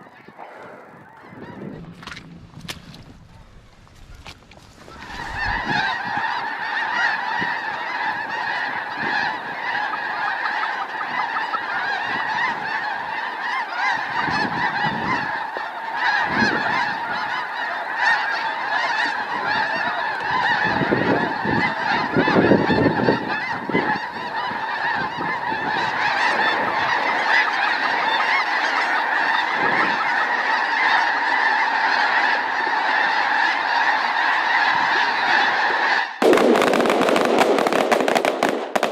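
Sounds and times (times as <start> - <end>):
flock of geese honking: 0.0 - 38.9.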